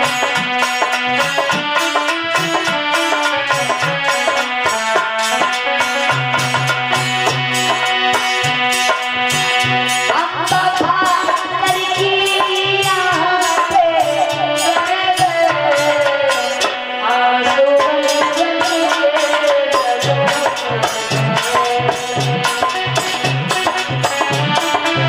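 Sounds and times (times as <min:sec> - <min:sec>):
sliding melodic lead line: 0:00.0 - 0:25.0
tabla rhythm: 0:00.0 - 0:25.0.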